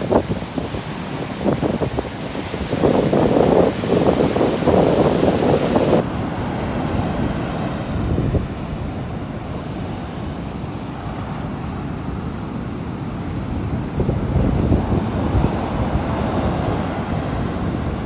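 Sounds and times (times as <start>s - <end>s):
wind buffeting microphone: 0.0s - 6.0s, 6.6s - 10.4s, 13.2s - 18.0s
sea waves washing ashore: 0.0s - 18.0s.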